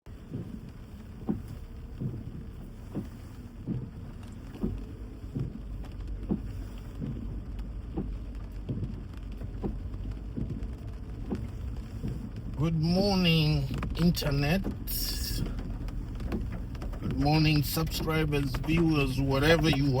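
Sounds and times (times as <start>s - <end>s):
low steady rumble: 0.1s - 20.0s
rain on a car: 0.1s - 20.0s
windscreen wipers sweeping: 0.1s - 20.0s.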